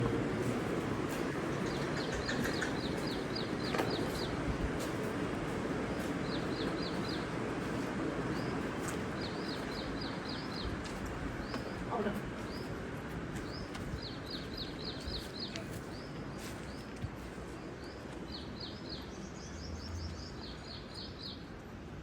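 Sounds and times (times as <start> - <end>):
steady rushing background noise: 0.0 - 18.4
small birds chirping: 1.1 - 21.5.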